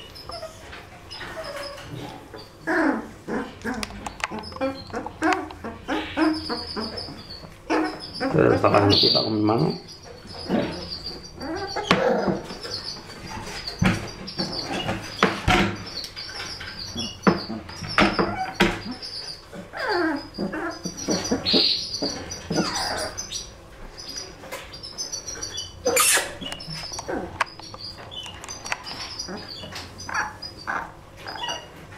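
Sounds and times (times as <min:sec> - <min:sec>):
puppies whimpering and yelping: 0:00.0 - 0:31.9
puppies whining: 0:00.0 - 0:31.9.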